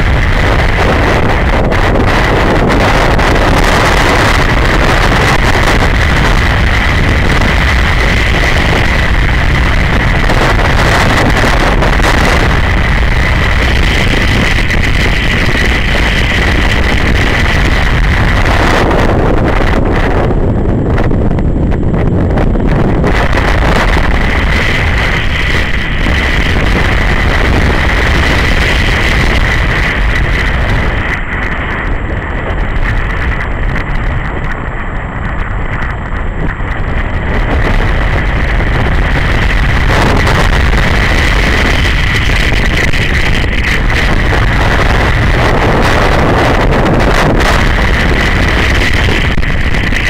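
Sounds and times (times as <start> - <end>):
motorcycle engine running: 0.0 - 50.0
wind buffeting microphone: 0.0 - 50.0.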